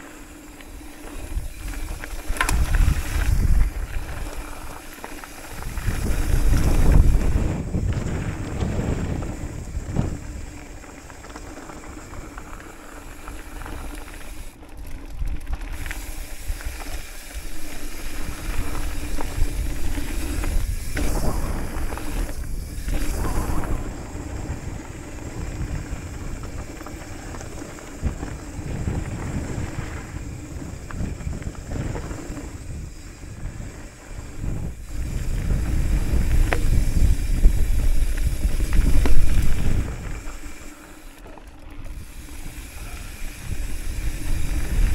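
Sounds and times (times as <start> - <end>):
bike clicks and rattles: 0.0 - 44.9
tyres crunching over gravel: 0.0 - 44.9
wind buffeting microphone: 0.8 - 44.9.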